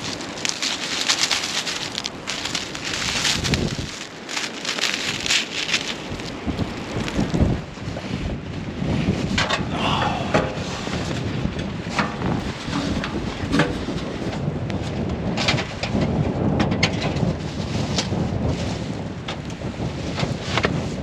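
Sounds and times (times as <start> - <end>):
storm wind blowing hard: 0.0 - 21.0
wind gusts hitting microphone: 0.0 - 21.0.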